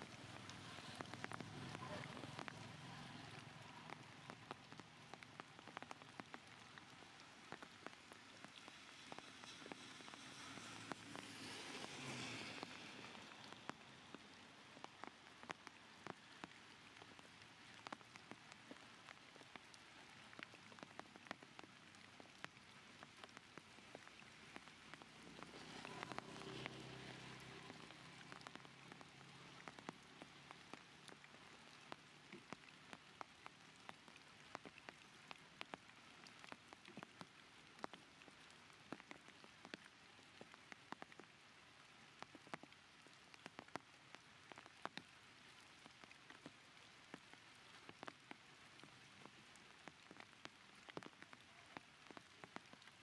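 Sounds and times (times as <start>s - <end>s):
faint rain hiss: 0.0s - 53.0s
raindrop ticks: 0.0s - 53.0s.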